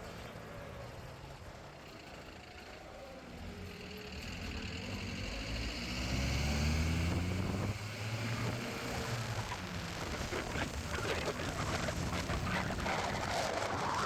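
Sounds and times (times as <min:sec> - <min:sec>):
vehicle engine running: 0:01.0 - 0:13.1.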